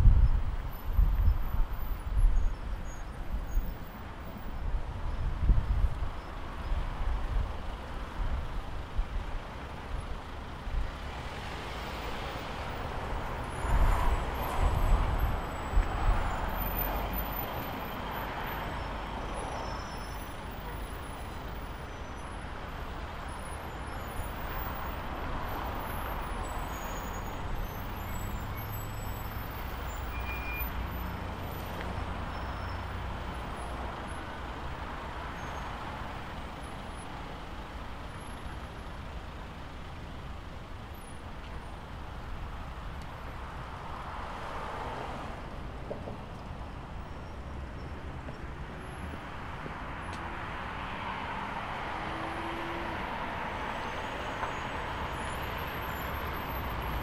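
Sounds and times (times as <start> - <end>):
tyres on road: 0.0 - 57.0.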